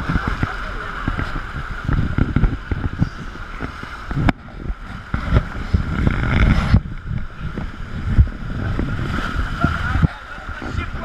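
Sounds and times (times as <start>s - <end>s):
rapids rushing and splashing: 0.0s - 11.0s.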